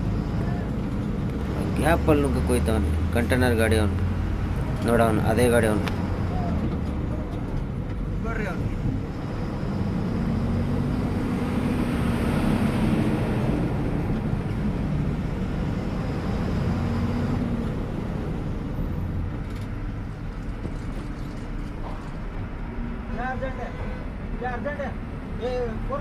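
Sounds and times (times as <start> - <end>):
road noise inside cab: 0.0 - 26.0
truck engine hum: 0.0 - 26.0.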